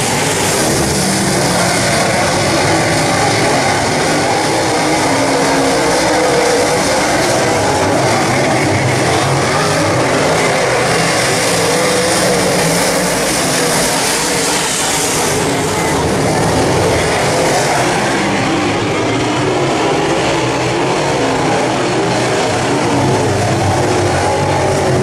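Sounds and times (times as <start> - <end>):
race car engines running: 0.0 - 25.0.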